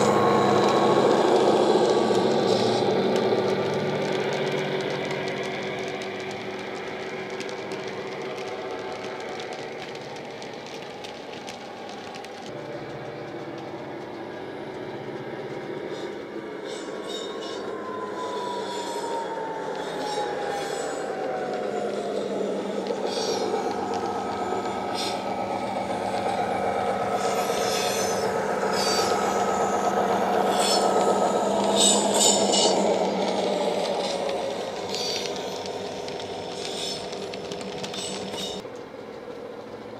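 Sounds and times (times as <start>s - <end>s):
model train diesel engine sound: 0.0s - 39.9s
train clicks and rattles: 0.0s - 39.9s.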